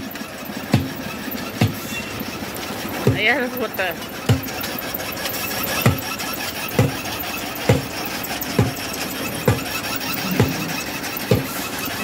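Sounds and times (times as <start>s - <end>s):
conveyor belt machinery hum: 0.0s - 12.0s.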